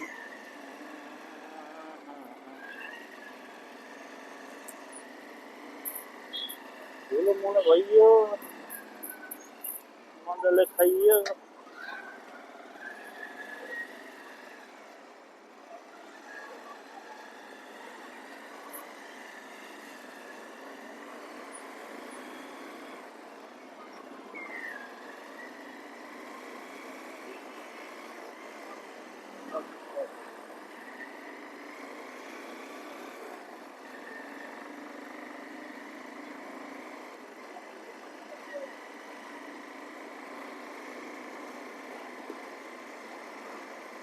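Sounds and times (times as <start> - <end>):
road traffic: 0.0 - 44.0.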